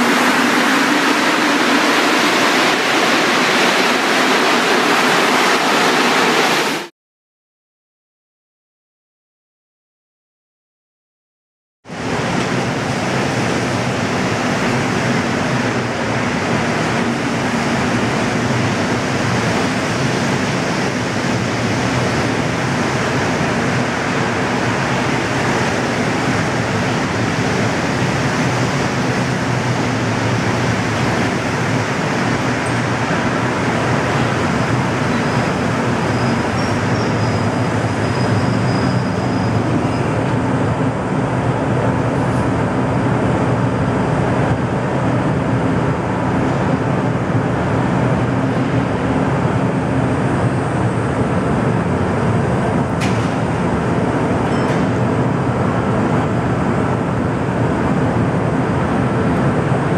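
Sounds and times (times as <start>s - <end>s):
train rumble and hum: 0.0s - 6.9s, 11.9s - 59.9s.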